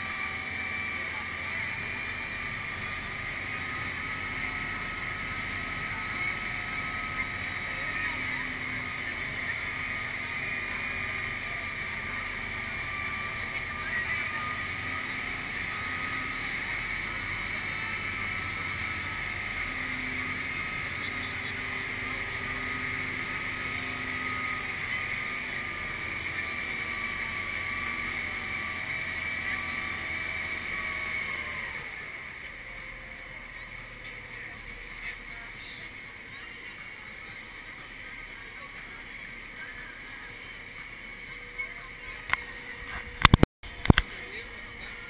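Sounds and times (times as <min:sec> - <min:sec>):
boat engine running steadily: 0:00.0 - 0:45.0.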